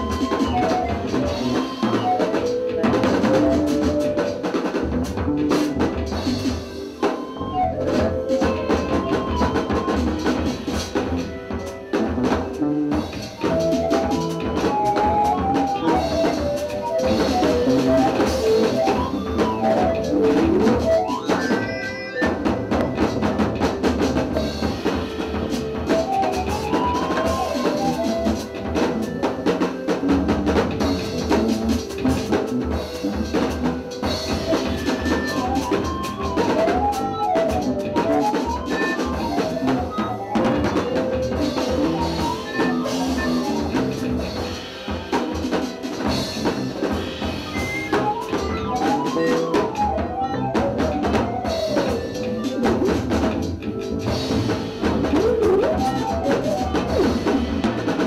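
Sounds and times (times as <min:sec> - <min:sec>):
bass: 0:00.0 - 0:58.0
drum kit: 0:00.0 - 0:58.0
keyboard melody: 0:00.0 - 0:58.0.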